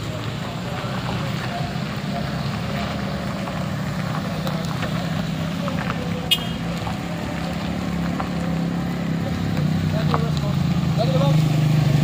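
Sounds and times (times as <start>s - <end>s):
minivan engine driving by: 0.0s - 12.0s
motorcycle engine: 0.0s - 12.0s.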